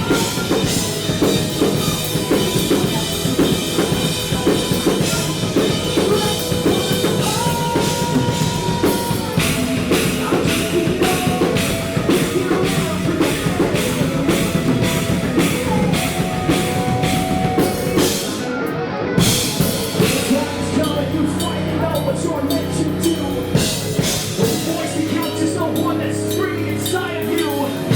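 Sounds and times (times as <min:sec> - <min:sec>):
drum kit pounding: 0:00.0 - 0:18.5, 0:19.2 - 0:27.9
distorted guitars: 0:00.0 - 0:27.9
rock band playing: 0:00.0 - 0:27.9.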